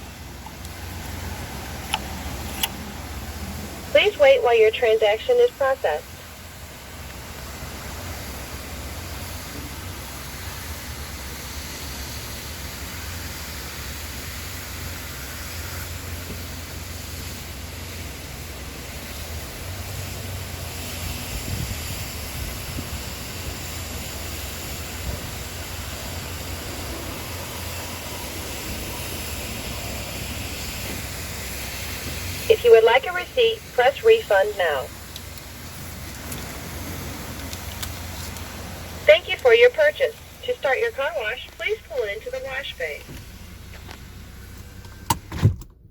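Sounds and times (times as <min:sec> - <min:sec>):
constant low rumble: 0:00.0 - 0:45.9.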